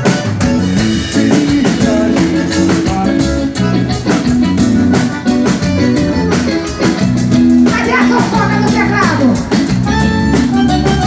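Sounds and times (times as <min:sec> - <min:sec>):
live band playing upbeat groove: 0:00.0 - 0:11.0.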